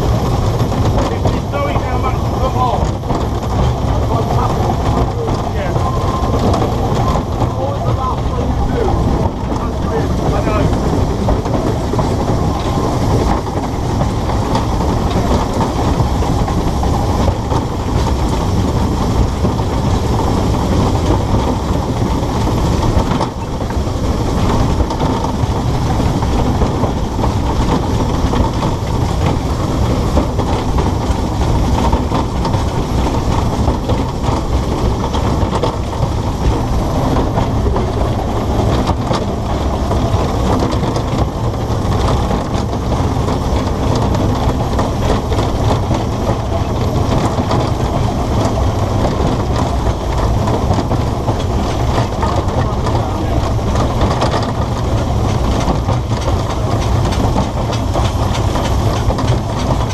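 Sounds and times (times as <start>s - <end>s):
steam locomotive rumbling on track: 0.0s - 59.9s.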